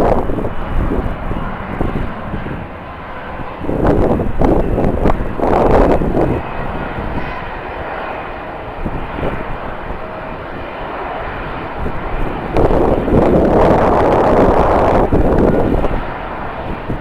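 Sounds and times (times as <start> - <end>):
jet engines running: 0.0 - 17.0
wind buffeting microphone: 0.0 - 17.0.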